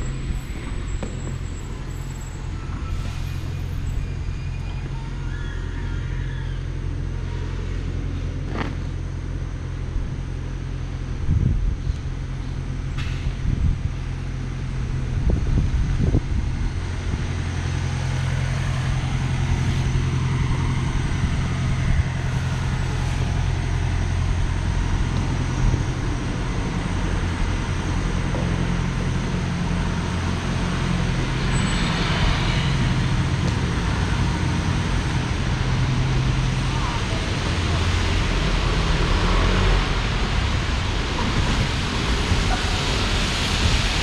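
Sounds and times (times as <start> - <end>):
road noise: 0.0 - 44.0
vehicle engine humming: 0.0 - 44.0.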